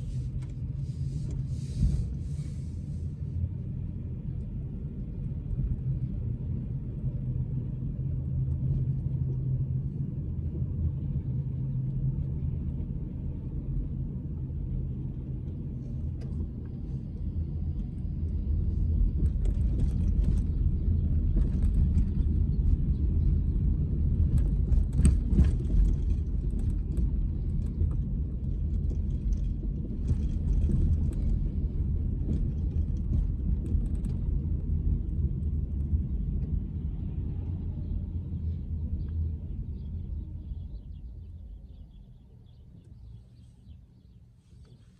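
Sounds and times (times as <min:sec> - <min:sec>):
car interior road rumble: 0:00.0 - 0:44.9.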